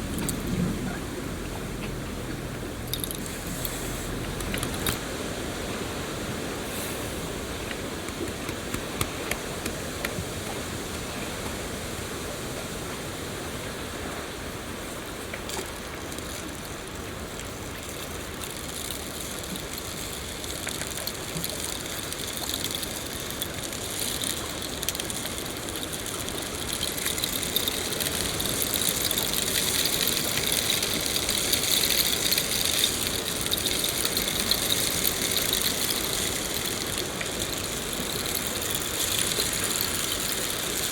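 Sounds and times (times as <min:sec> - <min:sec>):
rain hissing with drop ticks: 0:00.0 - 0:40.9.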